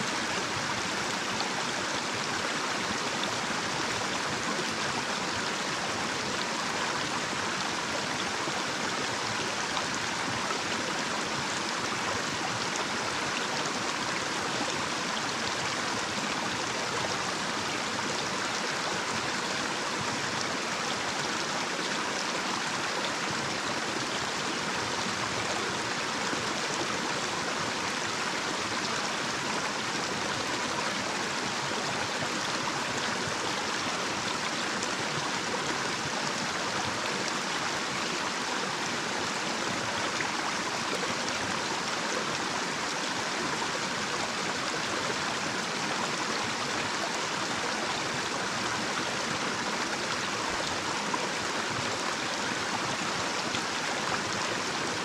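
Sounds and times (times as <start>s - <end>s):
stream babbling over cascade: 0.0s - 55.0s.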